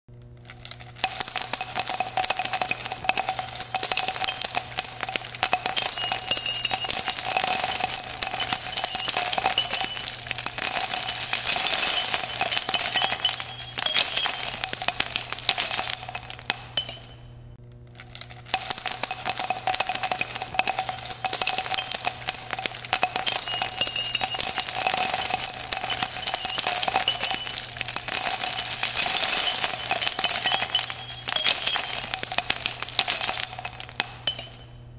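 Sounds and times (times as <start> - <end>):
brass casings clattering: 0.2 - 34.9.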